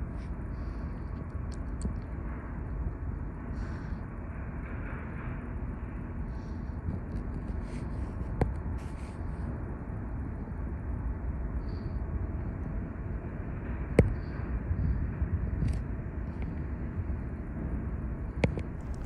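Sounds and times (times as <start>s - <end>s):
steady low rumble: 0.0s - 17.2s, 18.3s - 19.0s.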